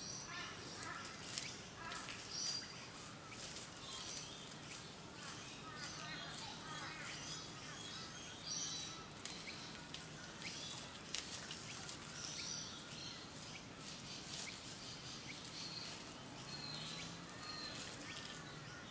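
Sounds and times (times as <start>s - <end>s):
small birds chirping: 0.0s - 18.9s
scratching in dry leaf litter: 0.2s - 18.9s.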